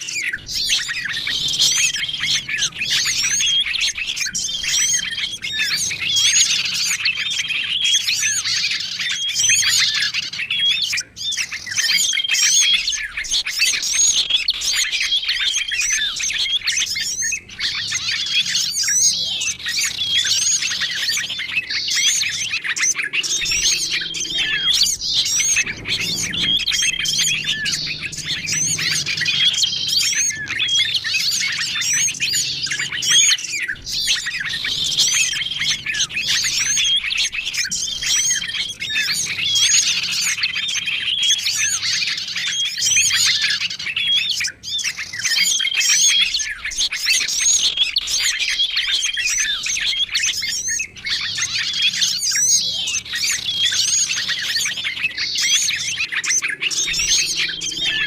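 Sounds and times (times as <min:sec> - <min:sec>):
songbirds chirping chorus: 0:00.0 - 0:58.0.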